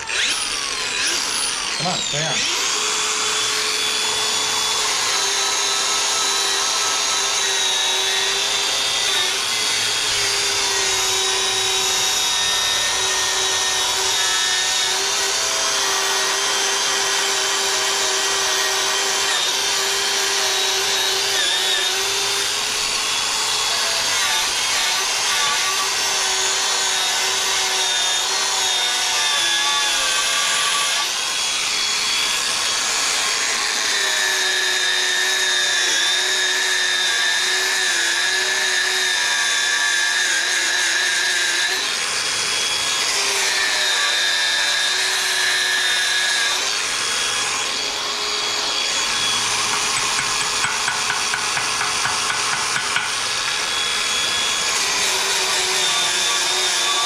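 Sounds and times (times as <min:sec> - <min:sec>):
angle grinder on steel: 0:00.0 - 0:57.0.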